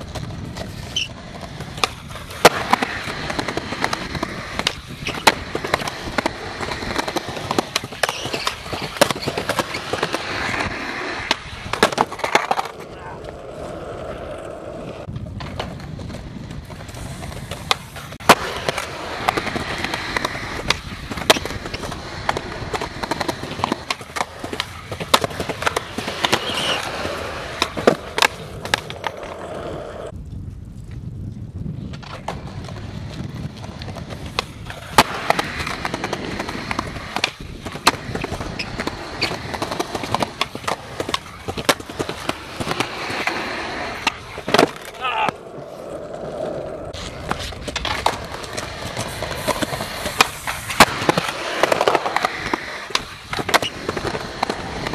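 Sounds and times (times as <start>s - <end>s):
skateboard clacks: 0.0s - 30.2s, 31.9s - 54.9s
skateboard wheels rolling on pavement: 0.0s - 54.9s.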